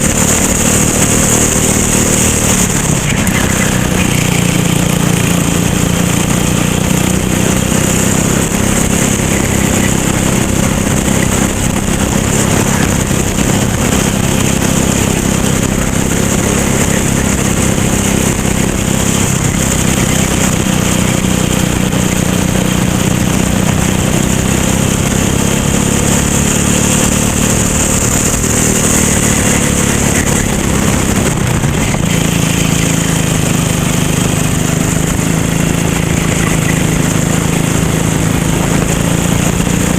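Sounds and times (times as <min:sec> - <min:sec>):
kart engine running: 0:00.0 - 0:39.9.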